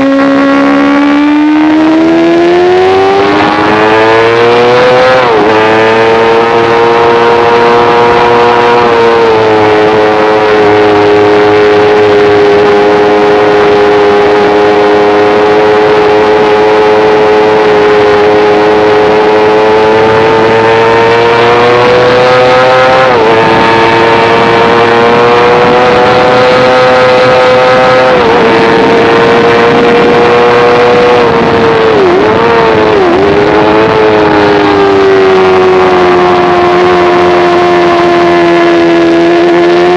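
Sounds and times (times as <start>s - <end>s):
motorcycle engine at high revs: 0.0s - 39.9s
wind noise: 0.0s - 39.9s.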